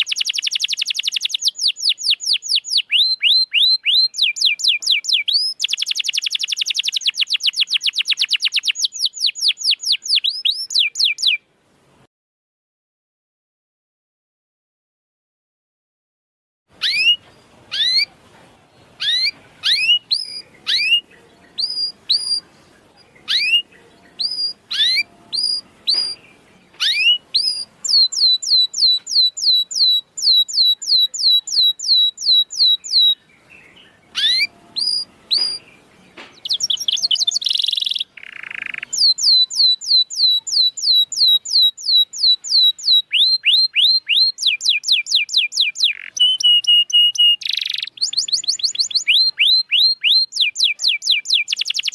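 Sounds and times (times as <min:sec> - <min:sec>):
canary singing chirps: 0:00.0 - 0:11.5, 0:16.7 - 0:51.9.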